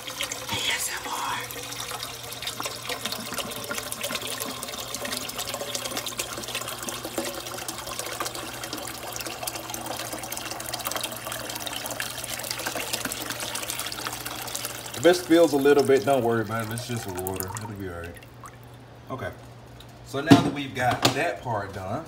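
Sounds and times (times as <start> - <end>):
water pouring into a pot: 0.0 - 19.0.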